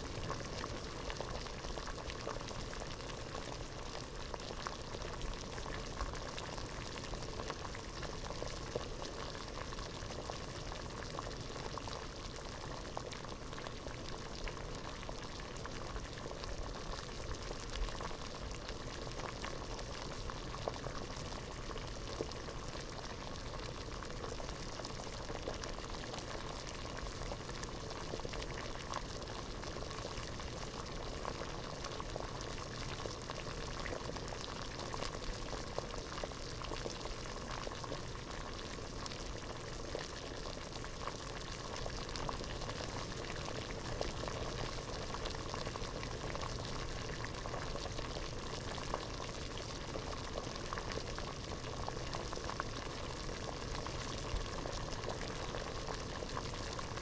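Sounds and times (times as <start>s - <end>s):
water boiling in a pot: 0.0s - 57.0s.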